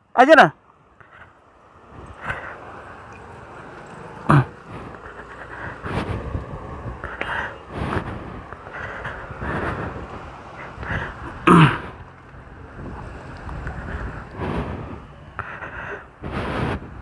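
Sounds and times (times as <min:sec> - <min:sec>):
wind buffeting microphone: 0:01.3 - 0:17.0.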